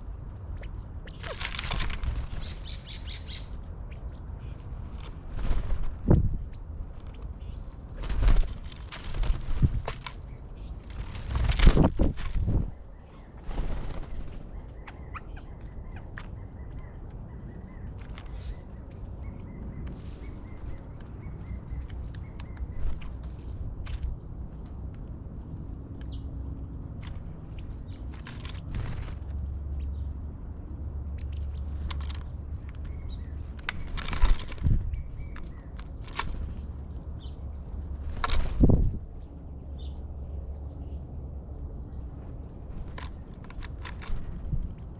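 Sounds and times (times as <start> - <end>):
birds chirping: 0.0 - 23.3, 26.0 - 44.9.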